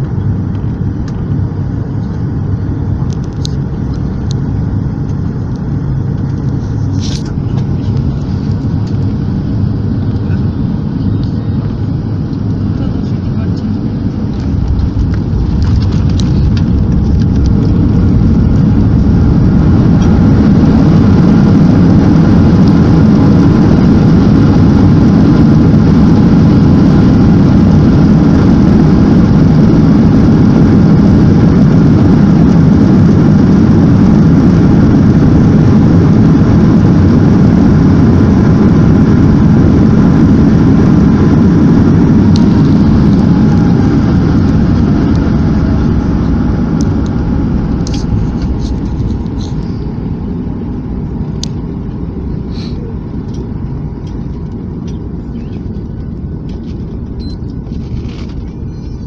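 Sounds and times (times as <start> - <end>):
jet cabin roar during landing: 0.0 - 59.0.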